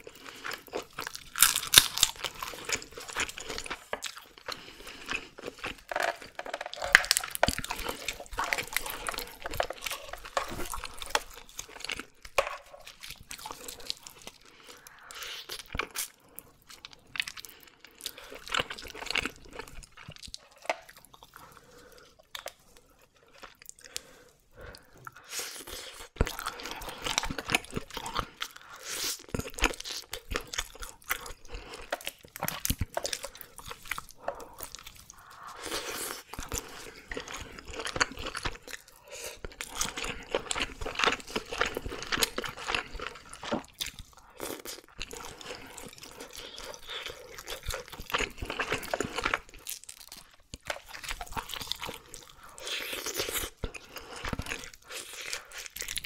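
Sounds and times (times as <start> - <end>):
chewing and crunching fish: 0.0 - 56.0.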